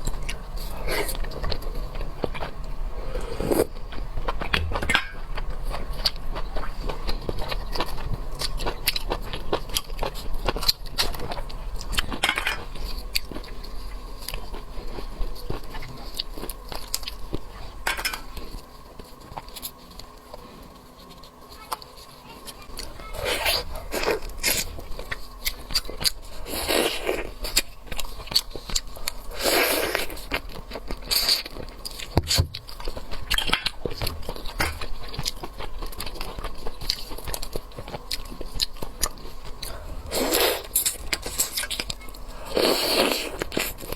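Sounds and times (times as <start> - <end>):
wet chewing: 0.0 - 43.9.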